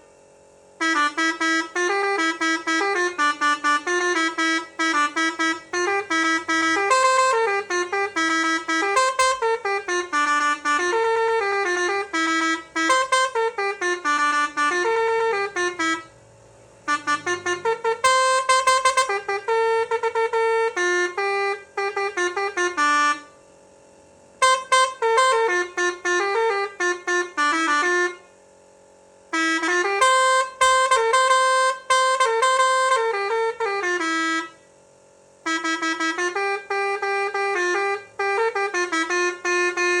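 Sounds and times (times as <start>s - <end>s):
musical horn playing a tune: 0.8s - 23.5s, 24.4s - 28.4s, 29.3s - 34.7s, 35.3s - 40.0s.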